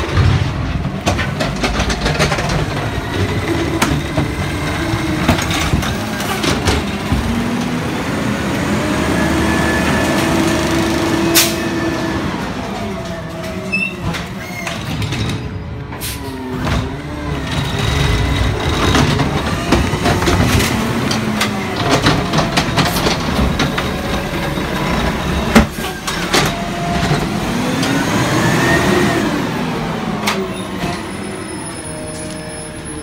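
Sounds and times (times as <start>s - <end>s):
garbage truck engine and hydraulics: 0.0s - 33.0s.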